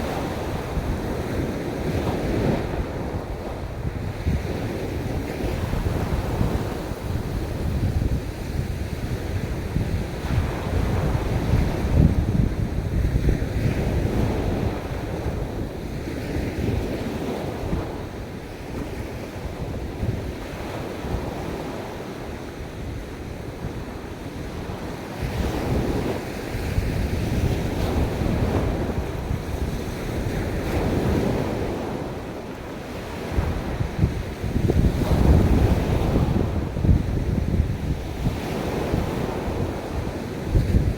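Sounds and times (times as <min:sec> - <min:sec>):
ocean waves washing onto beach: 0:00.0 - 0:40.9
wind rumbling on microphone: 0:00.0 - 0:40.9.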